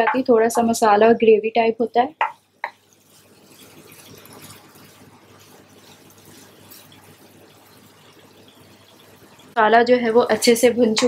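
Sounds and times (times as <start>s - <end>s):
food sizzling and bubbling: 0.0s - 11.0s.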